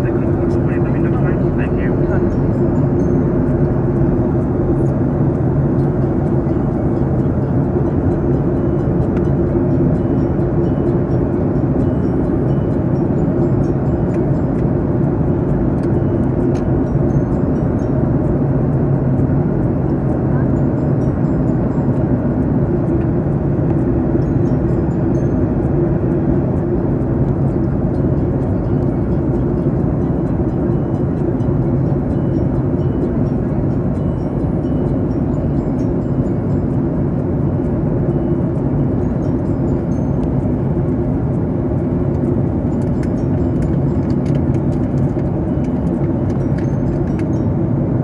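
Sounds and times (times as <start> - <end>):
airliner cabin engine rush: 0.0 - 48.0.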